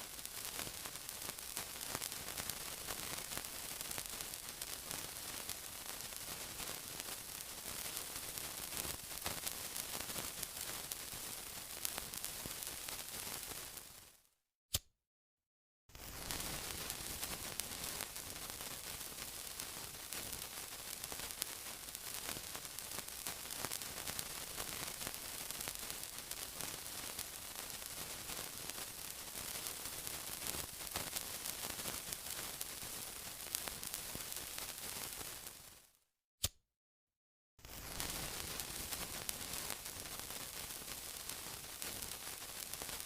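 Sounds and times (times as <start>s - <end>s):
sizzling with fine crackles: 0.0s - 14.3s, 15.9s - 36.0s, 37.6s - 43.0s.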